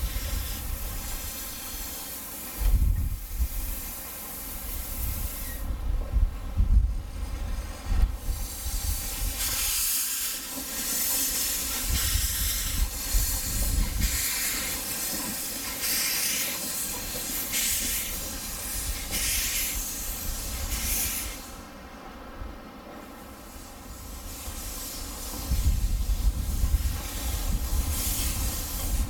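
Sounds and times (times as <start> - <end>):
steam locomotive hissing steam: 0.0 - 29.0.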